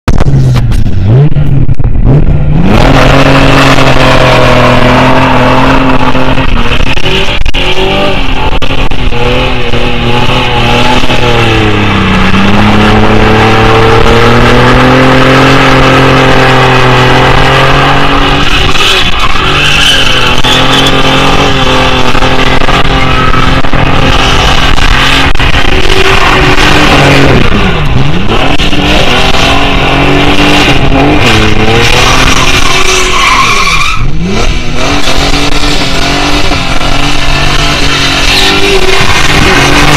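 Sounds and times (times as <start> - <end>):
car engine revving: 0.0 - 39.9
tyres spinning in a burnout: 2.0 - 39.9.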